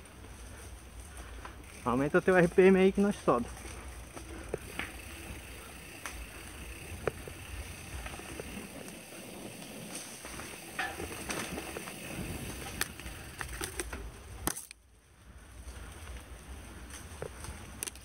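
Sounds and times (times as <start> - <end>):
bike tyres rumbling on dirt: 0.0 - 14.6
bike clicks and rattles: 0.2 - 14.8, 15.5 - 18.0.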